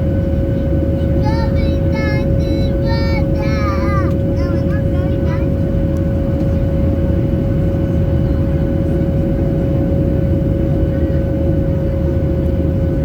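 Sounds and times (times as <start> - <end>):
jet airliner cabin rumble: 0.0 - 13.0
steady engine whine: 0.0 - 13.0.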